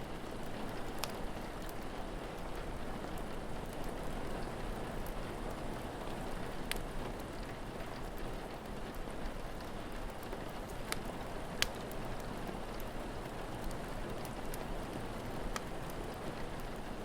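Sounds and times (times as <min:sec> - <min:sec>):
steady rain falling: 0:00.0 - 0:17.0
wood fire crackling: 0:00.0 - 0:17.0.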